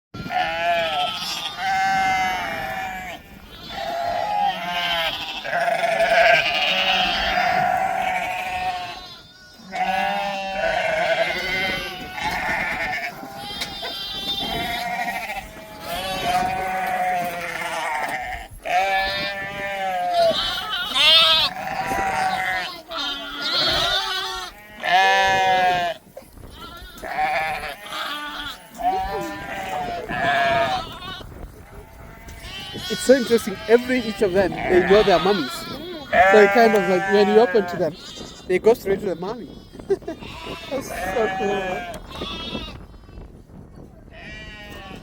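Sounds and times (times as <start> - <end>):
goats bleating: 0.2 - 42.8, 44.1 - 45.0.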